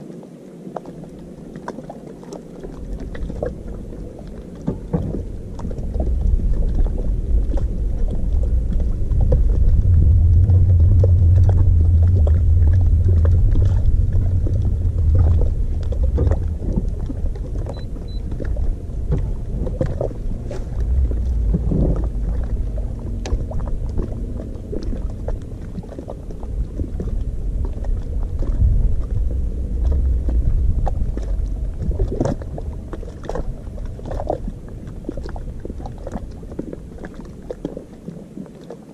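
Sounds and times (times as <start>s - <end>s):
water slapping against hull: 0.0s - 38.9s
low rumble: 0.8s - 38.3s.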